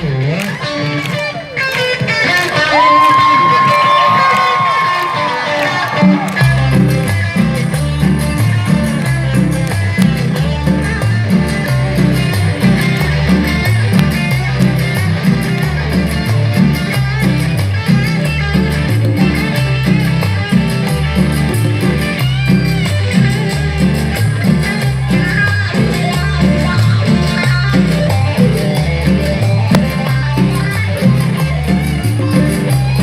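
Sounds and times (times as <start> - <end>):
band playing instrumental music: 0.0 - 33.0
repeating bass line: 0.0 - 33.0.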